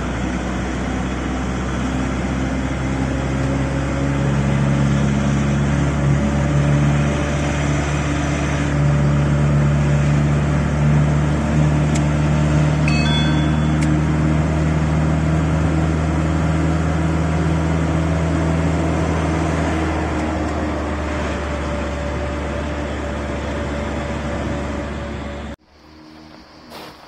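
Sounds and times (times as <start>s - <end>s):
van engine and road drone: 0.0s - 27.0s.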